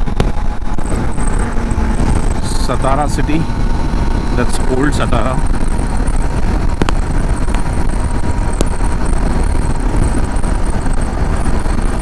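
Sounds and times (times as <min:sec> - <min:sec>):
motorcycle engine and road noise: 0:00.0 - 0:12.0
wind buffeting microphone: 0:00.0 - 0:12.0.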